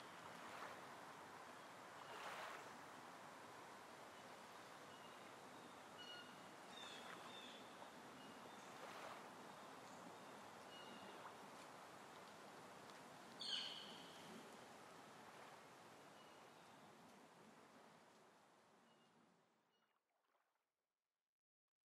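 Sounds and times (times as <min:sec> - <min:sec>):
soft steady hiss: 0:00.0 - 0:19.7.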